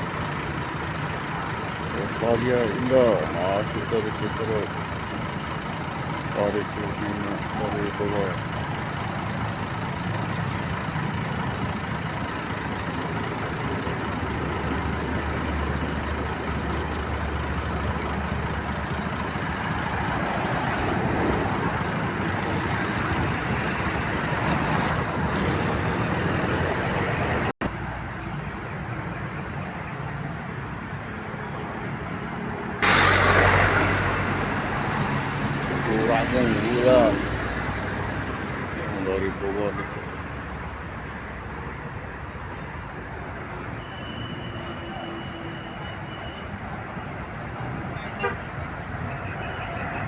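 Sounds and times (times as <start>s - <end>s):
road traffic: 0.0s - 50.0s.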